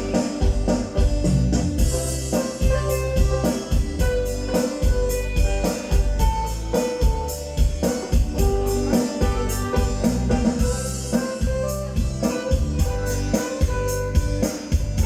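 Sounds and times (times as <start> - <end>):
music with heavy bass over speakers: 0.0 - 15.0.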